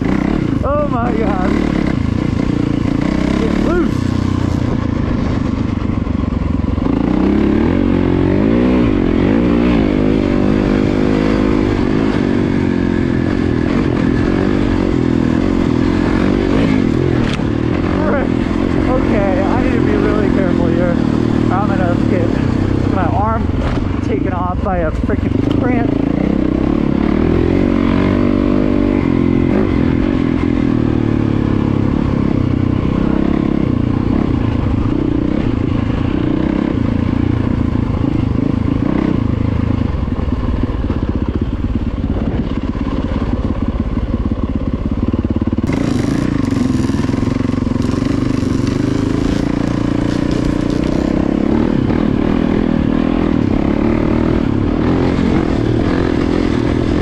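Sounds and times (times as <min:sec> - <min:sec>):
dirt bike engine revving: 0:00.0 - 0:44.2, 0:44.8 - 0:57.0.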